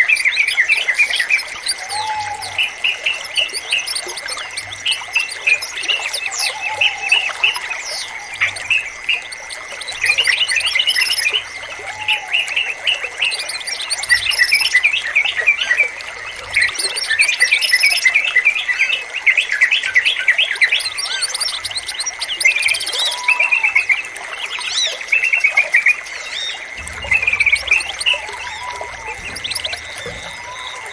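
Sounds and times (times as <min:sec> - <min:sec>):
bird chirping song: 0:00.0 - 0:24.0, 0:24.6 - 0:30.9.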